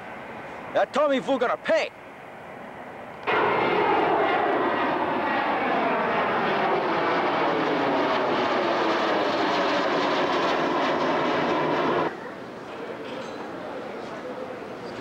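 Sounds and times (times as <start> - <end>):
jet airliner passing overhead: 2.2 - 15.0.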